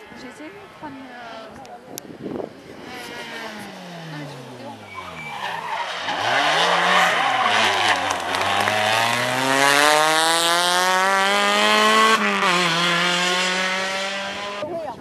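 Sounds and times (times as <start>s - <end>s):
rally car engine revving: 2.6s - 14.6s.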